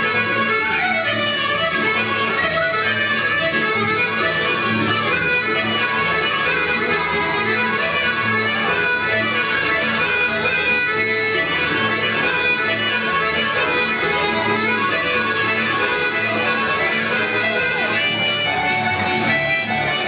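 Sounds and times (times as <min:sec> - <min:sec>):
folk dance tune on accordion: 0:00.0 - 0:20.0.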